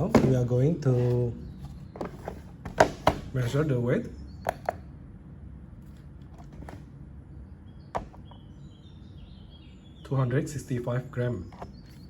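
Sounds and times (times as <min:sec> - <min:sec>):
small birds chirping: 0:00.0 - 0:05.1, 0:06.9 - 0:12.0.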